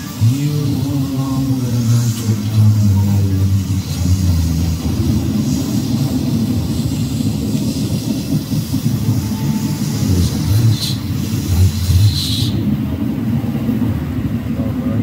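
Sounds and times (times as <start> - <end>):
short hisses: 0.0 - 12.7
loud low rumble: 0.0 - 15.0.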